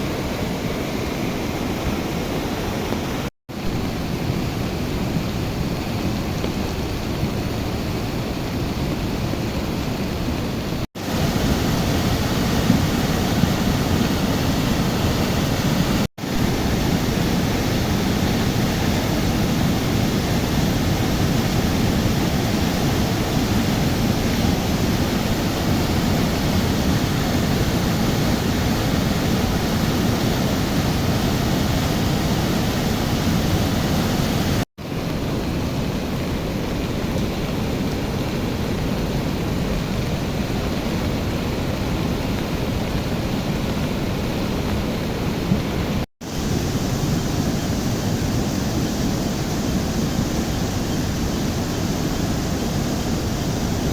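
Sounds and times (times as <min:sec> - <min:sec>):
river rushing: 0:00.0 - 0:53.9.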